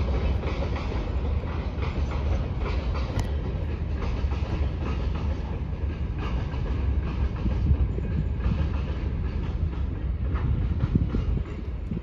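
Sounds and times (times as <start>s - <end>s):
freight train wagons rolling: 0.0s - 12.0s
wheels clicking over rail joints: 0.0s - 12.0s.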